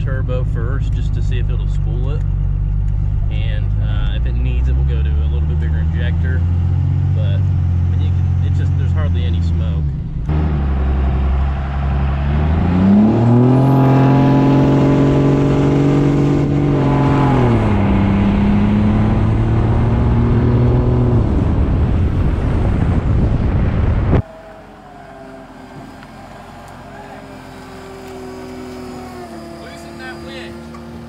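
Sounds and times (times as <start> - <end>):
diesel truck engine accelerating: 0.0 - 31.0.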